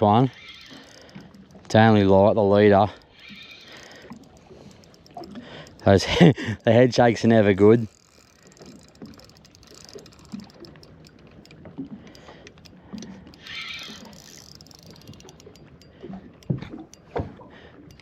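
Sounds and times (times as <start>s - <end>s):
fishing rod knocks and ticks: 0.0s - 18.0s
reel clicks: 0.0s - 18.0s.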